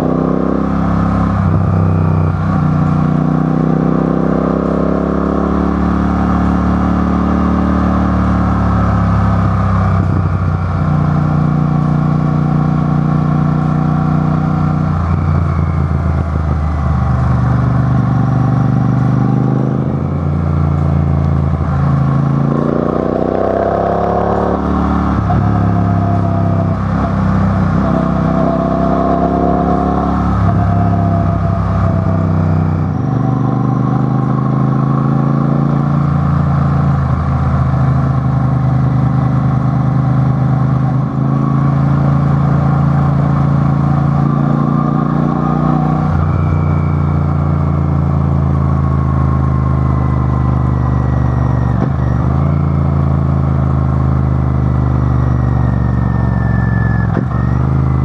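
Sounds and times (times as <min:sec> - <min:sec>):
vehicle engines revving: 0:00.0 - 0:58.0.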